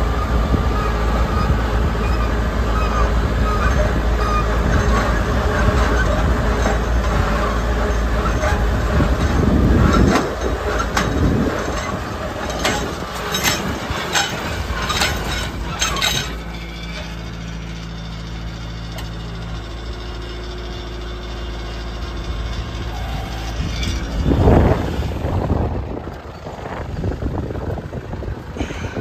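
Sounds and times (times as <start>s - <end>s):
engine idling: 0.0s - 29.0s
tractor and seed drill running: 0.0s - 29.0s.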